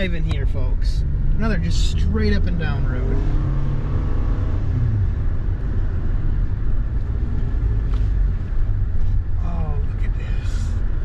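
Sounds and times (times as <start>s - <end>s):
car engine from inside cabin: 0.0s - 11.0s
road noise: 0.0s - 11.0s.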